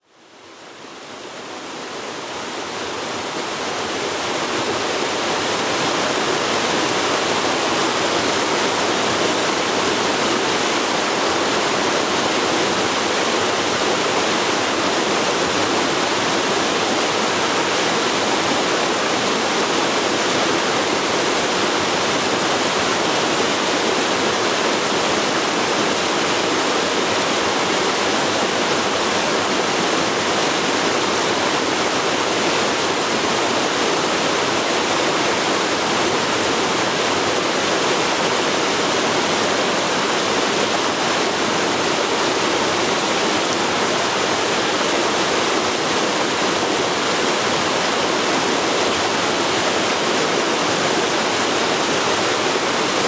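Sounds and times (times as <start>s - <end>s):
river rushing over rocks: 0.2s - 53.0s.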